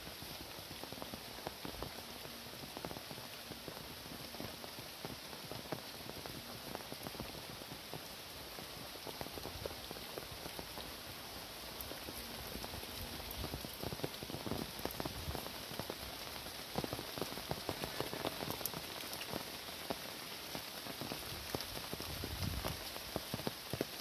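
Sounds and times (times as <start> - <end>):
heavy rain falling: 0.0 - 24.0
sharp raindrops striking: 0.0 - 24.0.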